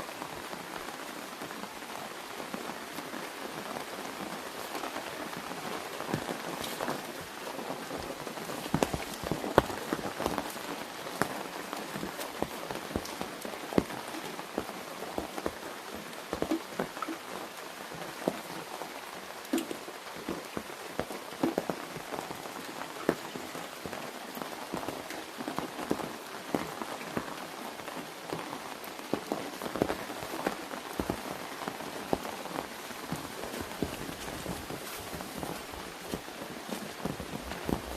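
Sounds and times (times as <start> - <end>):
rain hissing: 0.0 - 37.9
raindrops hitting umbrella: 0.0 - 37.9.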